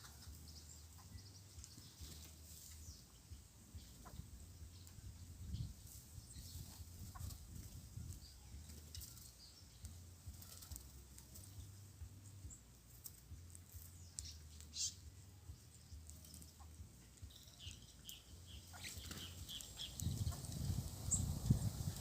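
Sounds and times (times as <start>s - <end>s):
light flutters and ticks: 0.0s - 5.2s, 5.8s - 15.0s, 15.7s - 22.0s
small birds chirping: 0.0s - 22.0s.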